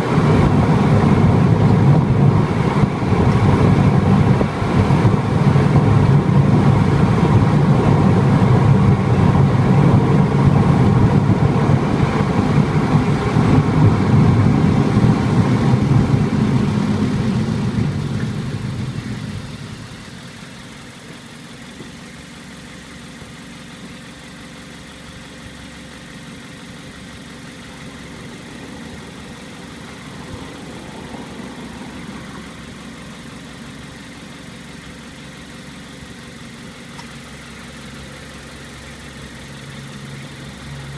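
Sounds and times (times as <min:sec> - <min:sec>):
car engine idling: 0:00.0 - 0:40.9
car road and engine noise: 0:00.0 - 0:40.9.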